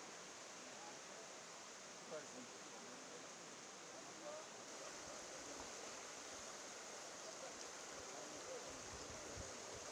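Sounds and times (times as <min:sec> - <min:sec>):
faint outdoor background hiss: 0:00.0 - 0:09.9.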